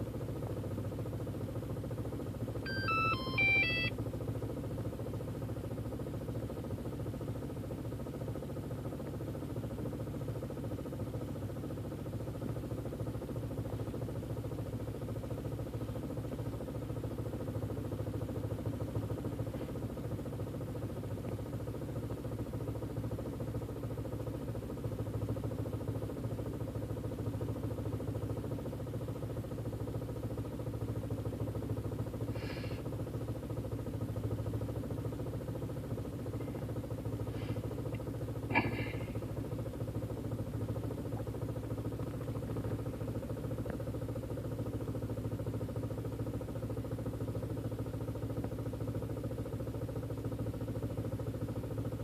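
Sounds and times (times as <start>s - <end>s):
car engine idling roughly: 0.0s - 52.0s.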